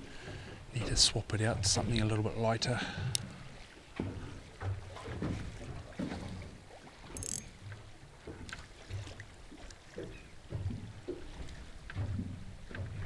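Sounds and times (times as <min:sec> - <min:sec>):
water slapping against boat hull: 0:00.2 - 0:13.0.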